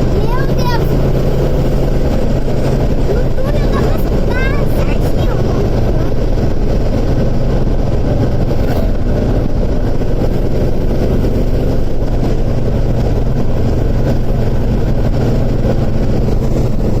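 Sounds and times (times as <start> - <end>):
car engine rumbling while driving: 0.0 - 17.0.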